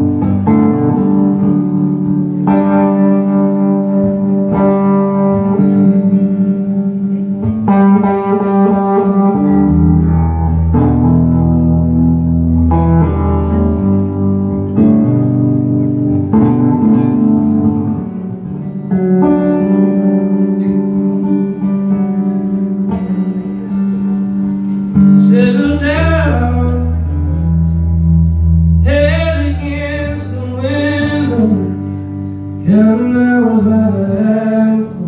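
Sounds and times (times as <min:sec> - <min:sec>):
electric guitar sustained chords: 0:00.0 - 0:35.0.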